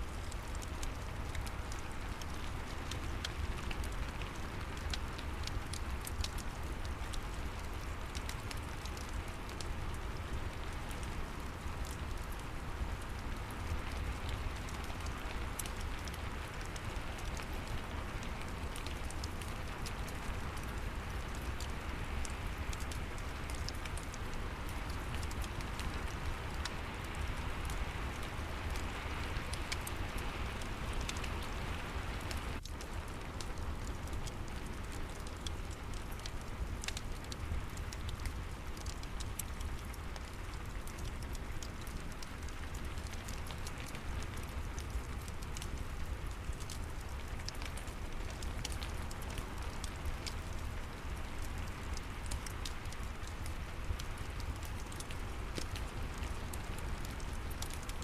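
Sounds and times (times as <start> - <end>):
fireplace crackles: 0.0 - 58.0
steady rain: 0.0 - 58.0.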